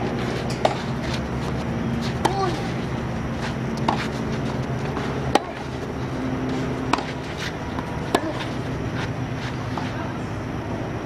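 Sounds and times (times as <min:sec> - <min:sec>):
tennis rackets hitting ball: 0:00.0 - 0:10.2.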